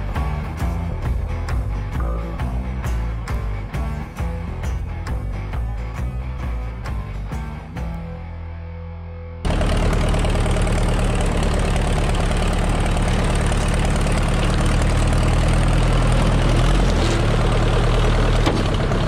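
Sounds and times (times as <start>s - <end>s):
backhoe loader engine running: 0.0s - 8.3s, 9.4s - 19.0s.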